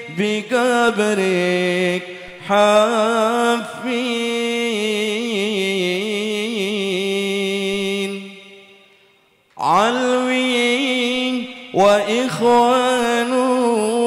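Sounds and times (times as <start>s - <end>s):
man singing melismatic melody: 0.0s - 8.9s, 9.5s - 14.0s.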